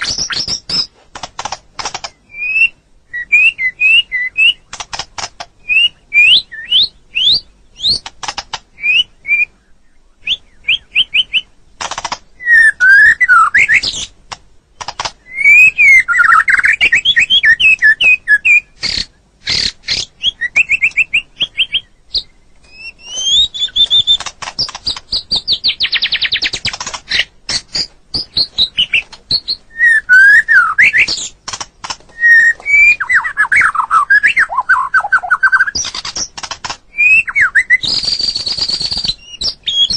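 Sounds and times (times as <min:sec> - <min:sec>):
bird singing whistles and trills: 0:00.0 - 0:00.9, 0:02.0 - 0:08.1, 0:08.7 - 0:11.6, 0:12.3 - 0:14.2, 0:15.2 - 0:39.9.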